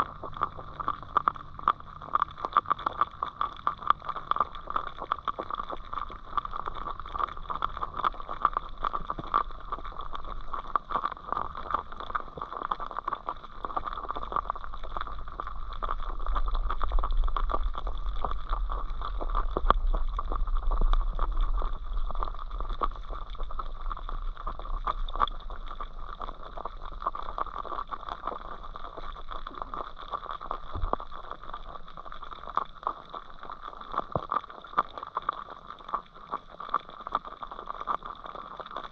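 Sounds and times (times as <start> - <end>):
low muffled rumble: 0.0 - 32.3
underwater crackling and clicking: 0.0 - 38.9
underwater hum: 0.0 - 38.9.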